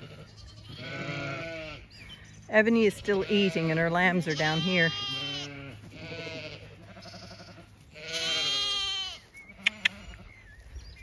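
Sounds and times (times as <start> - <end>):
sheep bleating: 0.0 - 1.9, 2.9 - 10.4.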